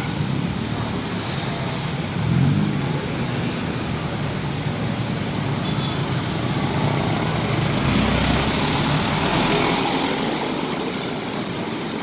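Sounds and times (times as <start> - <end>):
diesel truck engine rumble: 0.0 - 12.0
hiss of tyres and rain: 0.0 - 12.0
traffic passing on wet road: 0.0 - 12.0.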